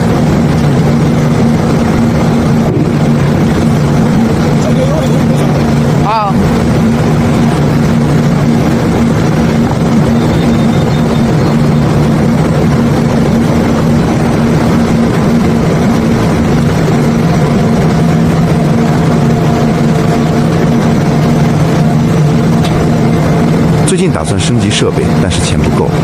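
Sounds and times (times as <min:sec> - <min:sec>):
constant rushing noise: 0:00.0 - 0:26.0
heavy diesel engine running: 0:00.0 - 0:26.0.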